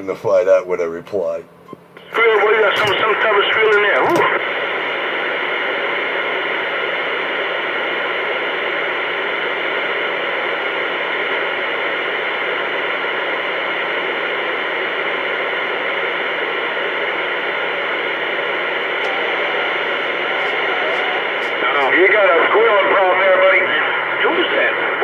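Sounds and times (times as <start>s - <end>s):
radio static hiss: 2.0s - 25.0s.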